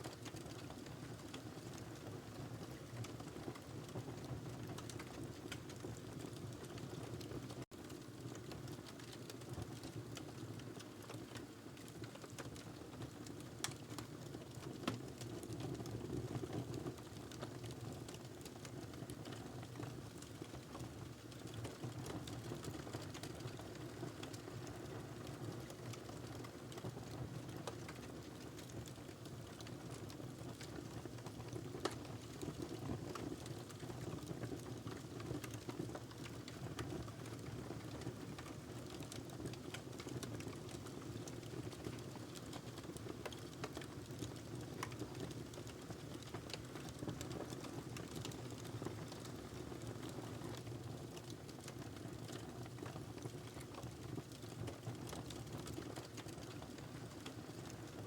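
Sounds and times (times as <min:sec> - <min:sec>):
wood fire crackling and popping: 0:00.1 - 0:02.1, 0:02.7 - 0:58.0.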